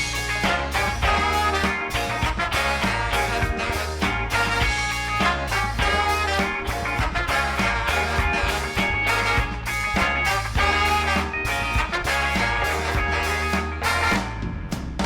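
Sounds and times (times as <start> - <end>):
live soul band playing: 0.0 - 14.8.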